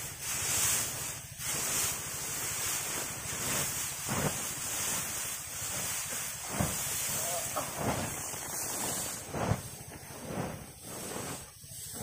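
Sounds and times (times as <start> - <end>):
dry straw rustling: 0.0 - 12.0.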